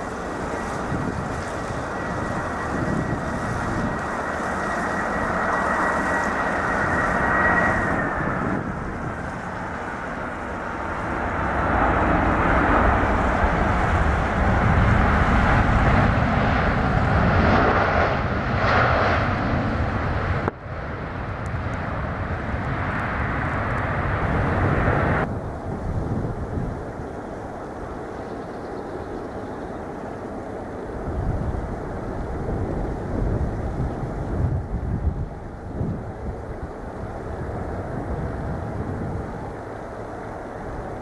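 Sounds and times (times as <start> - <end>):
jet engine and air noise: 0.0 - 41.0
jet engines whining: 0.0 - 41.0.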